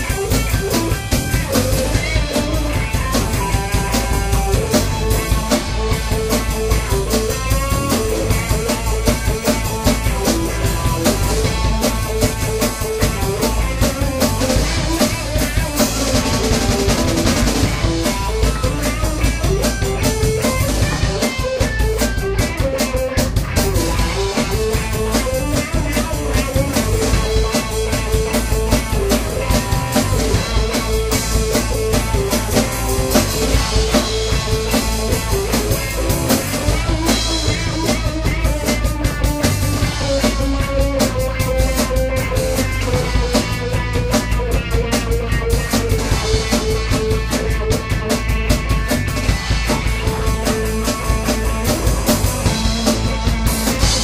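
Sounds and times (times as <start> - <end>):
drum kit beat: 0.0 - 54.0
rock band playing: 0.0 - 54.0.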